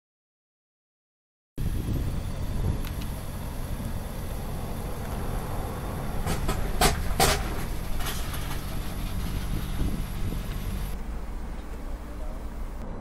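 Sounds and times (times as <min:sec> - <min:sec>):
vehicle engine rumble: 0:01.6 - 0:13.0.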